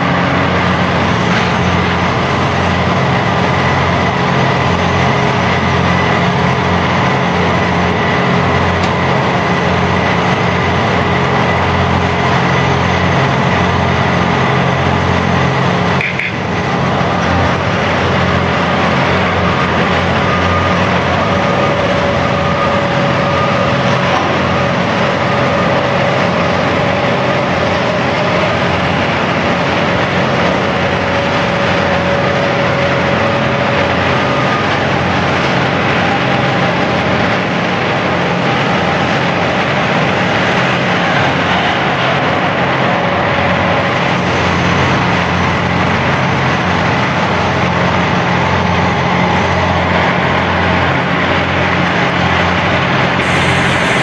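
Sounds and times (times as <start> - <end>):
heavy machinery running: 0.0 - 54.0.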